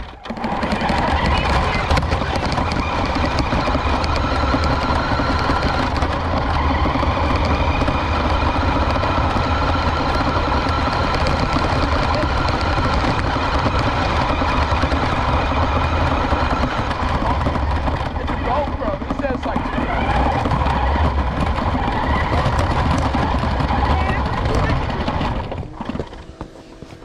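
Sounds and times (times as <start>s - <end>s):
toy truck motor whining: 0.0s - 27.0s
wheels rattling and knocking: 0.0s - 27.0s.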